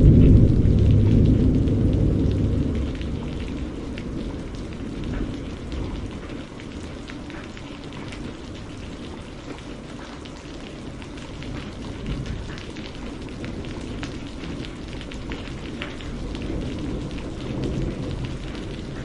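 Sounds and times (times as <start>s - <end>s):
raindrops striking: 0.0s - 19.0s
steady rainfall: 0.0s - 19.0s.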